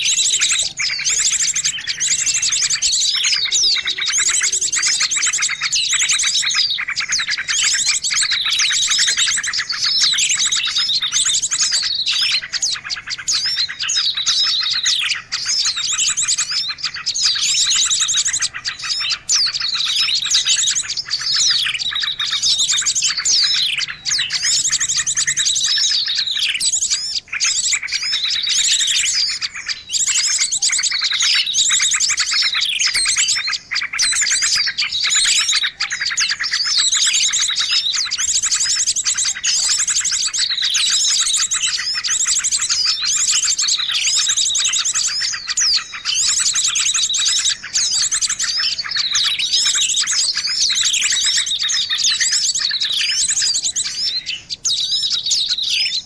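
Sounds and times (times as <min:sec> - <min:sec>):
songbirds chattering: 0:00.0 - 0:56.0.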